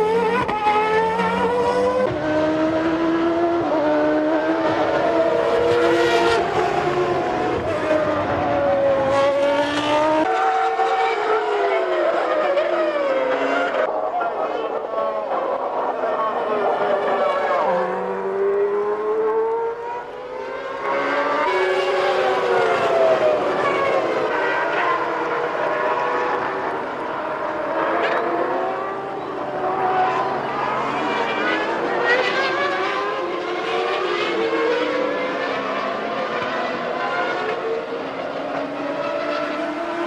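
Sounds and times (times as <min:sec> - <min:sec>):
racing car engines at high revs: 0:00.0 - 0:13.9, 0:14.8 - 0:40.0.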